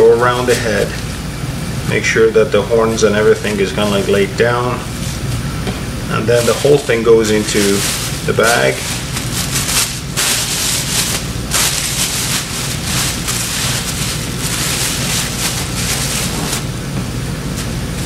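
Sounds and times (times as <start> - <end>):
plastic bag rustling: 0.0 - 1.2, 2.6 - 5.6, 6.2 - 18.0
steady low hum: 0.0 - 18.0.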